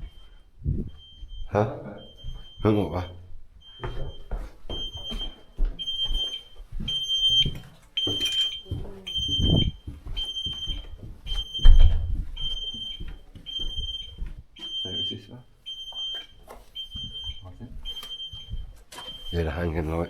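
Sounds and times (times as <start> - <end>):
electronic alarm beeping: 0.0 - 20.0
footsteps thudding: 0.0 - 20.0.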